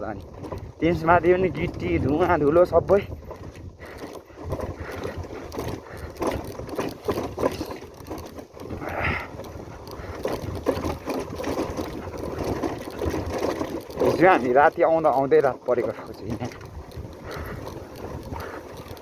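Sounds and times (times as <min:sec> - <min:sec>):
knocks and rattles over stones: 0:00.0 - 0:19.0
motorcycle engine running low: 0:00.0 - 0:19.0.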